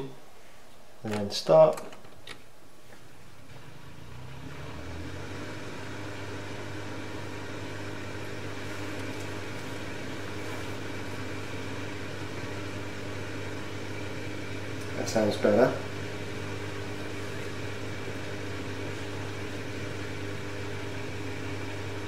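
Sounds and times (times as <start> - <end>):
dishwasher drain pump humming: 3.5 - 22.0.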